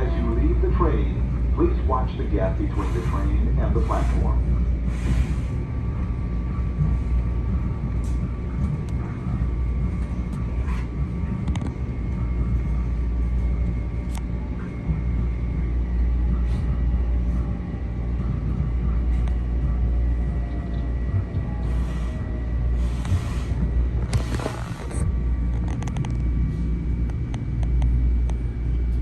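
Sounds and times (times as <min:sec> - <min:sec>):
railcar rumble and hum: 0:00.0 - 0:29.0.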